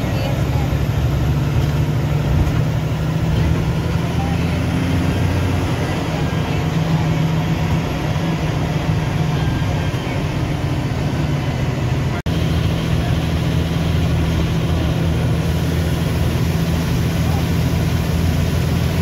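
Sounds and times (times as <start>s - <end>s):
bus engine drone and road noise: 0.0s - 19.0s.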